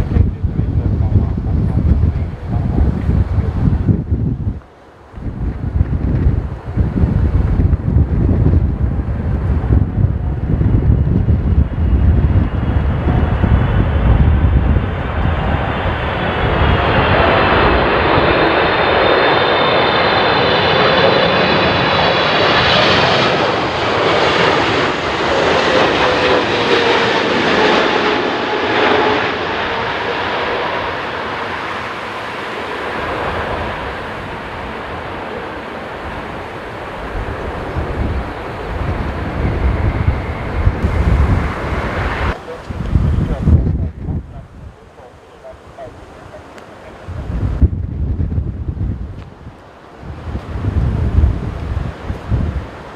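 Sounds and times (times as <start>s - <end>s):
jet airliner engines whine and rumble: 0.0s - 52.9s
wind buffeting microphone: 0.0s - 52.9s.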